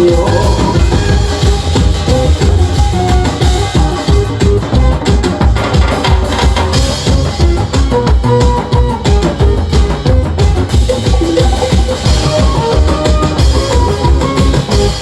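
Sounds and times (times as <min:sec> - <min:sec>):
upbeat music with fast drums: 0:00.0 - 0:15.0.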